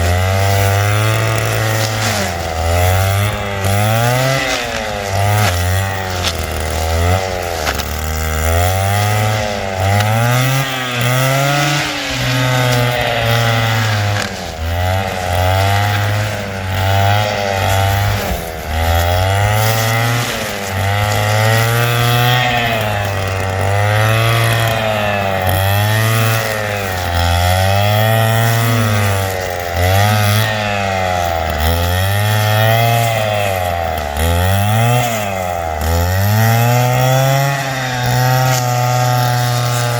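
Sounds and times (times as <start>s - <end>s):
brushcutter engine revving: 0.0s - 39.9s.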